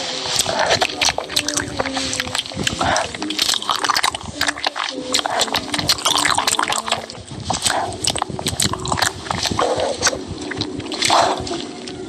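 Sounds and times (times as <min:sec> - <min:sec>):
wet mouth smacking: 0:00.3 - 0:12.0.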